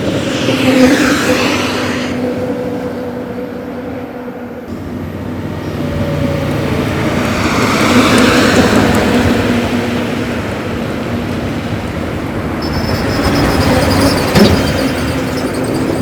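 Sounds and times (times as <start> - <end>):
heavy motor vehicle running: 0.0 - 16.0.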